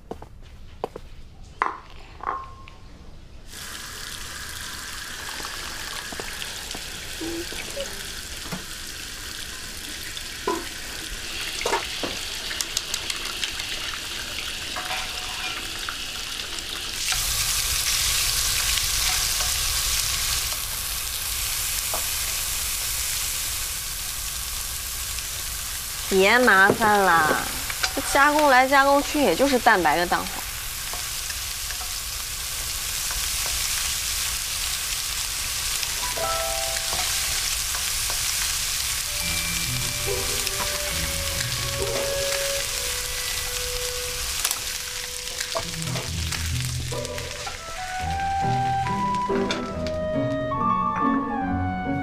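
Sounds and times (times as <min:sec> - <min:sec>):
food sizzling in a pan: 0:03.5 - 0:50.0.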